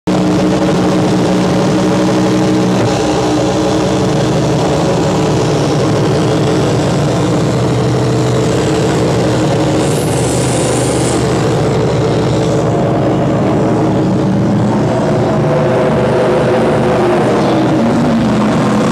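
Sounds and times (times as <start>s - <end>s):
low droning tones: 0.1s - 18.9s.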